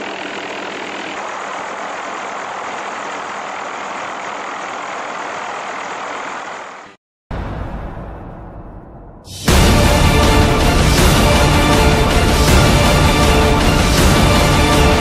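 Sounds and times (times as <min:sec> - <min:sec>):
helicopter engine and rotor drone: 0:00.0 - 0:07.0, 0:09.5 - 0:15.0.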